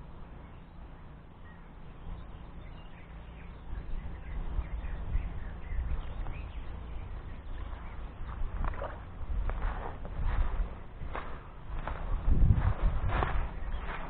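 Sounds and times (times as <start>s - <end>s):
wind buffeting microphone: 1.9s - 14.0s.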